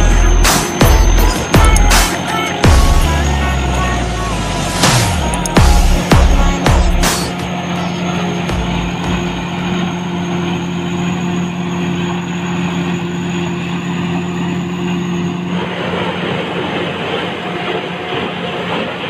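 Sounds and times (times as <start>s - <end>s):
combine harvester engine drone: 0.0s - 19.0s
faint high whine: 0.0s - 19.0s.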